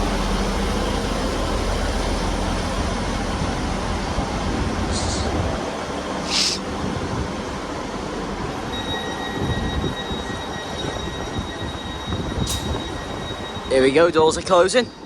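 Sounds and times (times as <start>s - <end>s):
diesel train idling: 0.0s - 15.0s.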